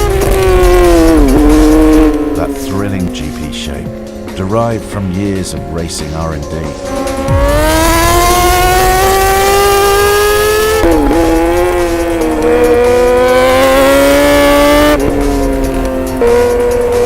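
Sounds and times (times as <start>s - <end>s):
motorcycle engine accelerating: 0.0s - 4.4s, 6.7s - 17.0s.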